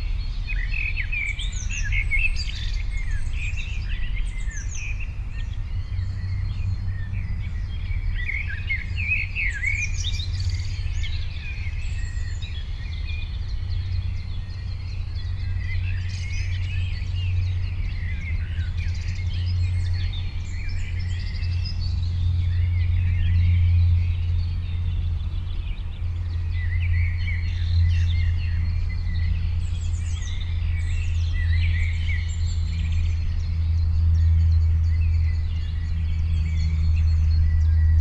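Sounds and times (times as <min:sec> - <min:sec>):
songbirds chirping: 0:00.0 - 0:38.0
steady low rumble: 0:00.0 - 0:38.0.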